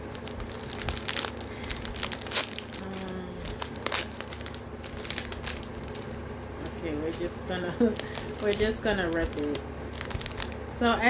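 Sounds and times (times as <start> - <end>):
snack wrapper crinkling: 0.0 - 10.6.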